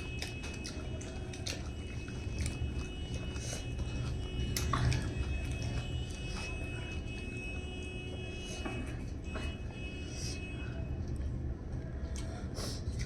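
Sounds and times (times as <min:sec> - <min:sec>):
chewing food: 0:00.0 - 0:10.0, 0:10.7 - 0:13.0.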